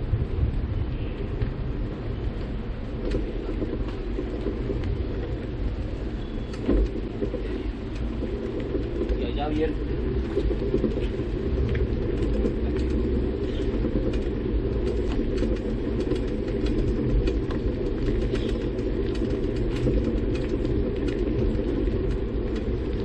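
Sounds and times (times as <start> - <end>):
bicycle tyres rolling: 0.0 - 23.0
wind buffeting microphone: 0.0 - 23.0
light clicks and rattles: 2.3 - 23.0.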